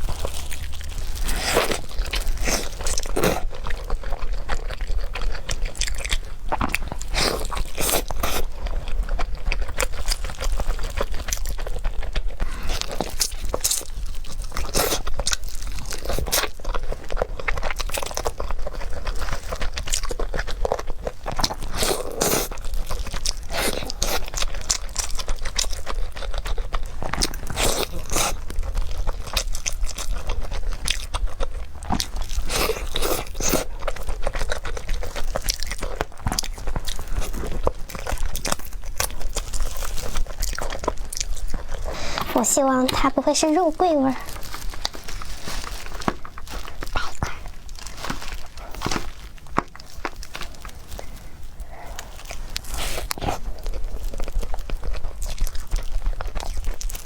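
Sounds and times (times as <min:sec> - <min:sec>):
person crunching and chewing: 0:00.0 - 0:57.0.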